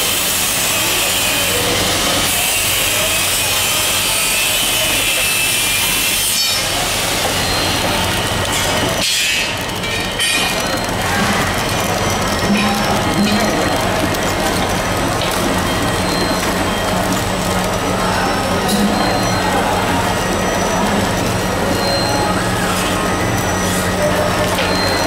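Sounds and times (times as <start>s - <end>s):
packing machine clatter: 0.0s - 25.0s.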